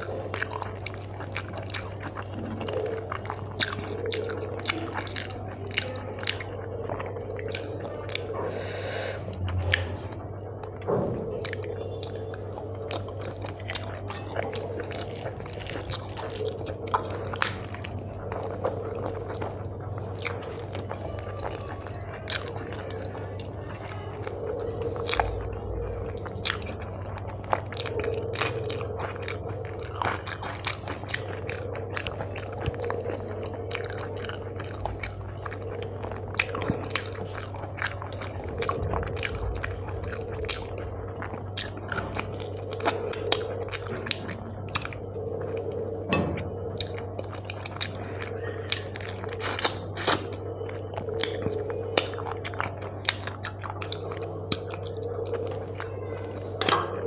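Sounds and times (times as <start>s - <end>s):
person chewing: 0.0s - 57.0s
steady low hum: 0.0s - 57.0s.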